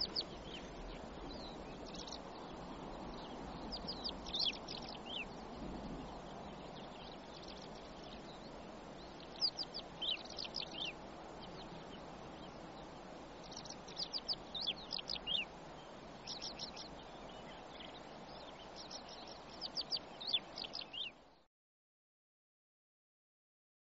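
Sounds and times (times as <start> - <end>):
small birds chirping: 0.0 - 21.5
steady background hiss: 0.0 - 21.5.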